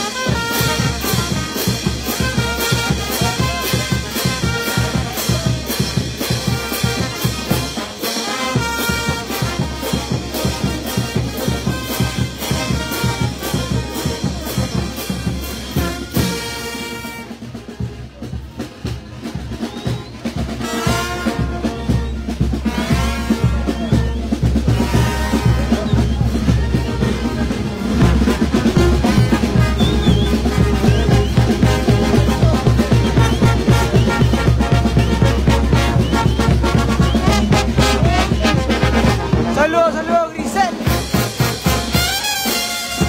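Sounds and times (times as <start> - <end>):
brass band playing: 0.0 - 43.0
drum beat: 0.0 - 43.0.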